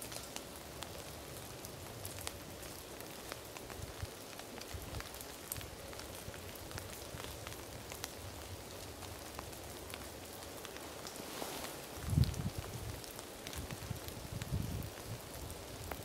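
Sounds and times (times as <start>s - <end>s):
drizzle and drips pattering: 0.0s - 16.0s
faint steady hiss: 0.0s - 16.0s.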